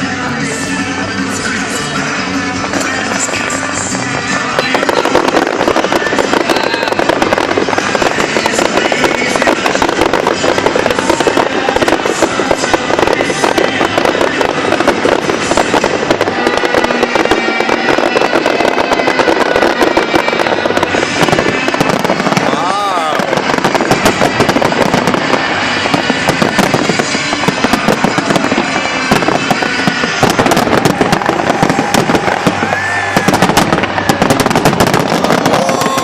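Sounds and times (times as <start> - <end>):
fireworks crackles and bangs: 0.0 - 36.0
music playing: 0.0 - 36.0.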